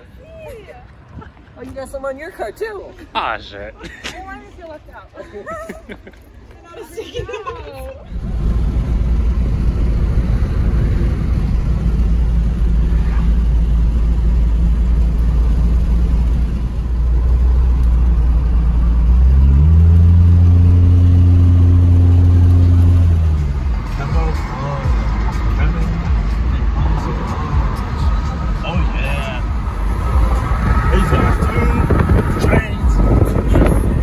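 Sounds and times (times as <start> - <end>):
engine and road rumble: 0.0 - 34.0.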